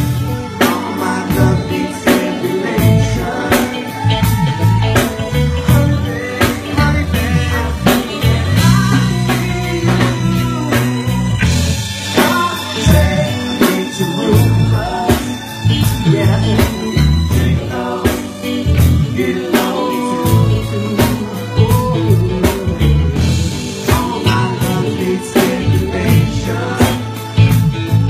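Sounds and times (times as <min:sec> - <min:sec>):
heavy bass line: 0:00.0 - 0:28.0
live band playing: 0:00.0 - 0:28.0
person singing: 0:00.0 - 0:28.0.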